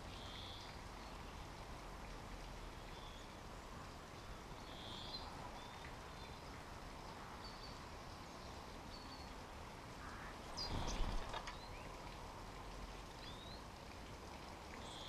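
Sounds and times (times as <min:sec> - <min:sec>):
background hiss: 0:00.0 - 0:15.0
rustle: 0:00.0 - 0:15.0.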